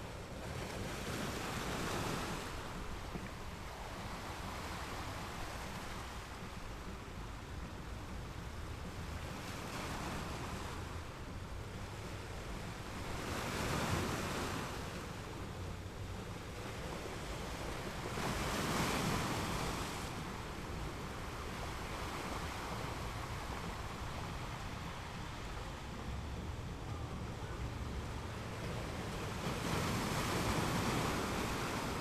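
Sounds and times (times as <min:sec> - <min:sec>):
ocean waves washing ashore: 0:00.0 - 0:32.0.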